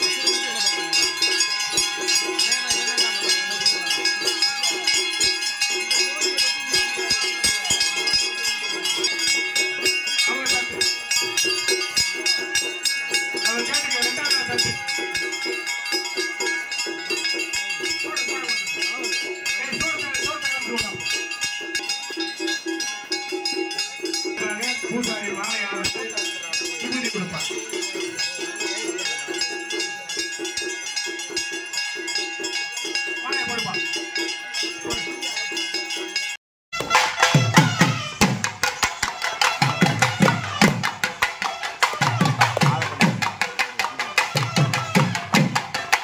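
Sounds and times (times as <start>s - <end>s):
crowd talking: 0.0s - 46.0s
temple bells ringing: 0.0s - 46.0s.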